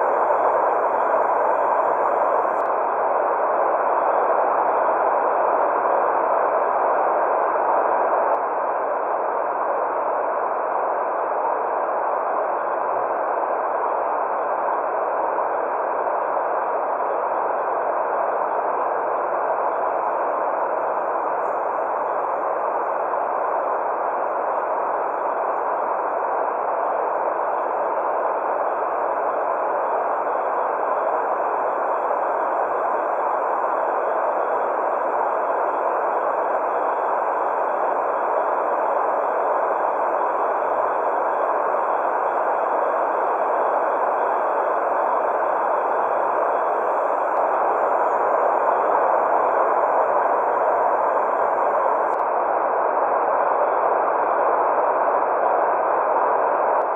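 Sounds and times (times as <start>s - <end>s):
faint steady high tones: 0.0s - 56.9s.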